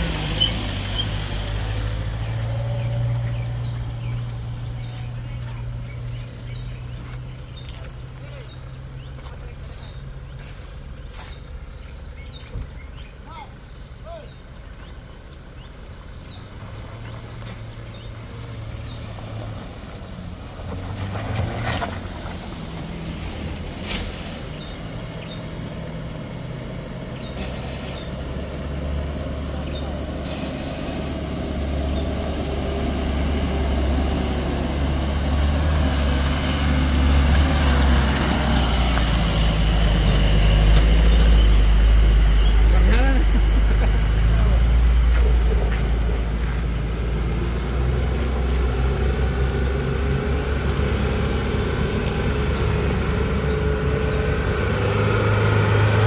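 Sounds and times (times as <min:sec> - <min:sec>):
heavy vehicle engine approaching: 0:00.0 - 0:56.0.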